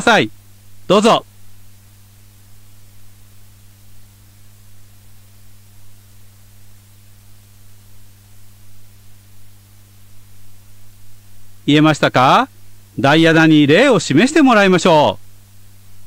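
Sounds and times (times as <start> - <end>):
electrical hum with faint hiss: 0.0 - 16.0.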